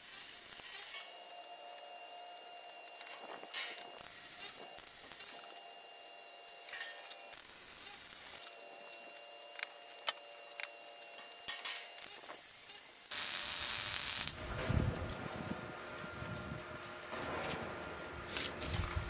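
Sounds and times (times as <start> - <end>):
arc welding crackle: 0.0 - 19.0.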